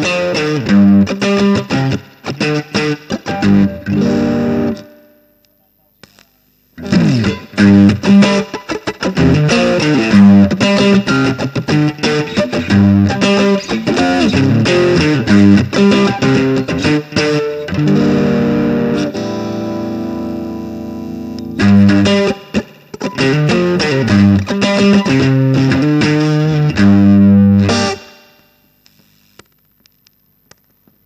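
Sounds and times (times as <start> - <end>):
overdriven electric guitar riffing: 0.0 - 5.5, 6.8 - 28.5.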